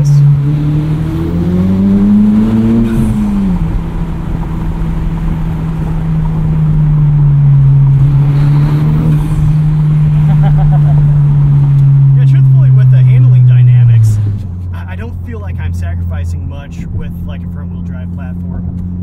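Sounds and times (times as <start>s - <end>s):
car engine accelerating: 0.0s - 19.0s
road noise: 0.0s - 19.0s.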